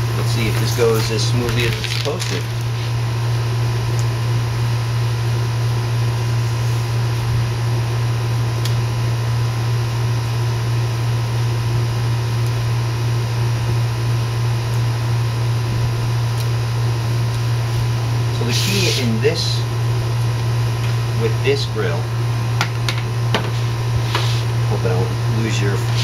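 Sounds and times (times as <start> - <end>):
loud low machine hum: 0.0 - 26.0.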